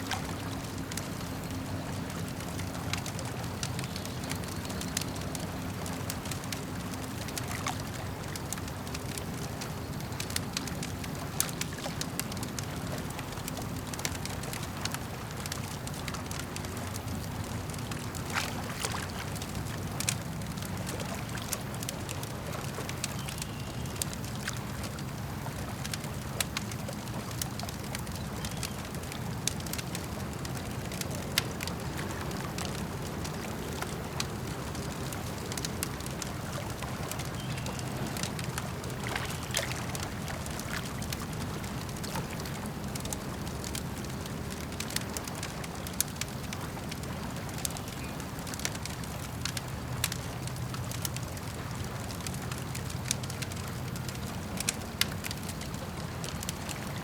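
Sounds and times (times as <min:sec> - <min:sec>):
campfire crackling and popping: 0:00.0 - 0:57.0
lake water lapping: 0:00.0 - 0:57.0.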